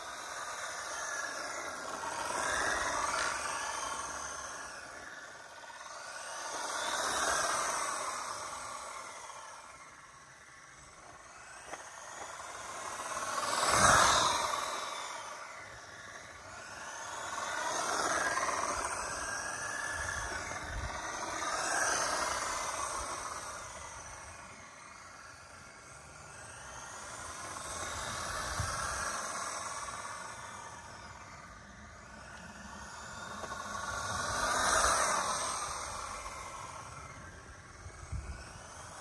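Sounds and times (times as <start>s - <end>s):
toy car electric motor whining: 0.0s - 39.0s.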